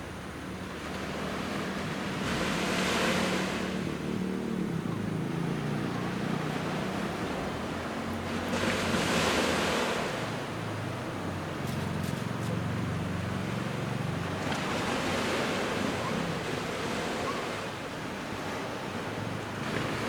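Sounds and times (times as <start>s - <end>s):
waves washing onto beach: 0.0s - 20.0s.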